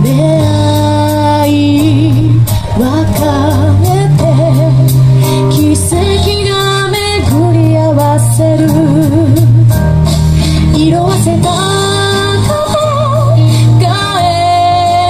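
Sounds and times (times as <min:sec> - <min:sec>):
woman singing with vibrato: 0:00.0 - 0:09.8, 0:10.6 - 0:15.0
instrumental accompaniment with beat: 0:00.0 - 0:15.0.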